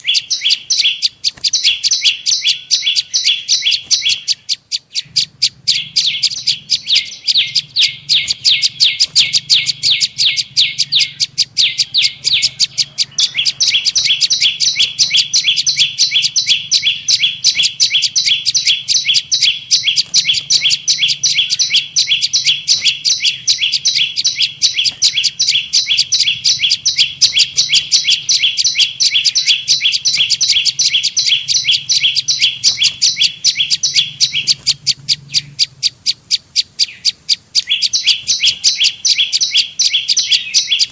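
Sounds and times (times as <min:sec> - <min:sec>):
faint low hum: 0:00.0 - 0:40.9
high sharp bird chirps: 0:00.0 - 0:40.9.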